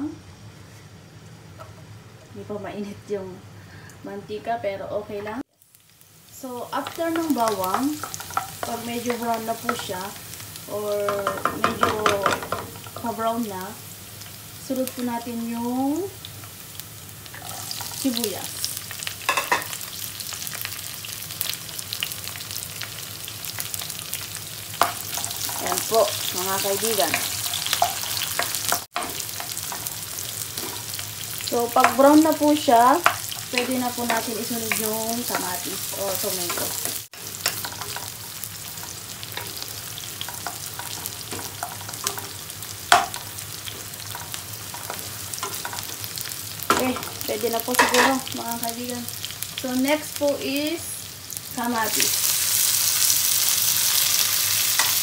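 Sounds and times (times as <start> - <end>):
onion sizzling in hot oil: 5.0 - 55.0.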